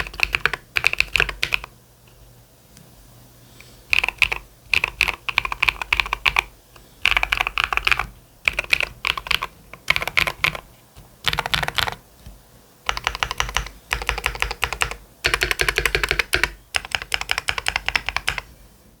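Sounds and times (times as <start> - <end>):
mechanical keyboard typing: 0.0 - 1.7, 3.9 - 12.0, 12.9 - 18.5.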